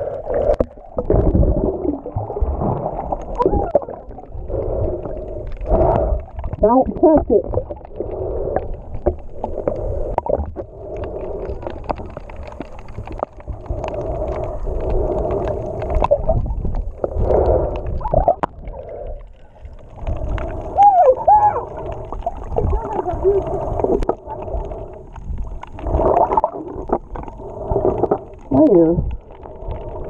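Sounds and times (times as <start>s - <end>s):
underwater water movement: 0.0s - 30.0s.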